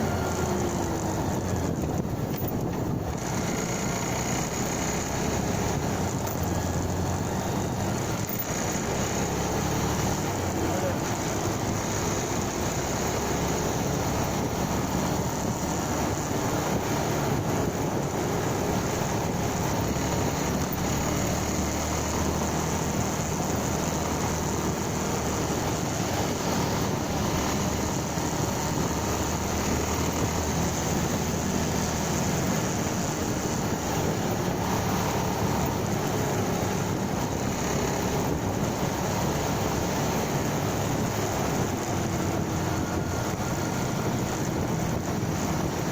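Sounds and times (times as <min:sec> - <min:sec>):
motorcycle engine running: 0:00.0 - 0:45.9
road noise: 0:00.0 - 0:45.9.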